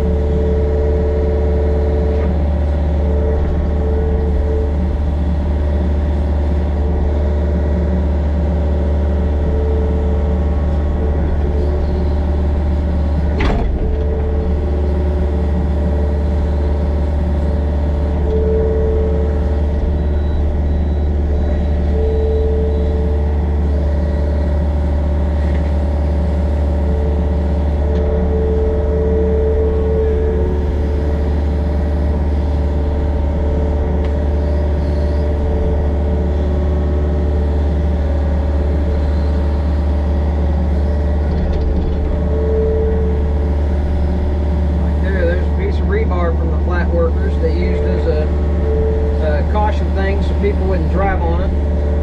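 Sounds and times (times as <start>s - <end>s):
excavator diesel engine running: 0.0s - 52.0s
hydraulic whine: 0.0s - 52.0s.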